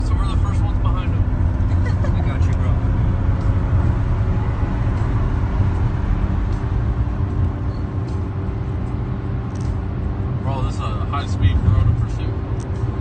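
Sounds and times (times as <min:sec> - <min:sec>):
vehicle running low rumble: 0:00.0 - 0:13.0.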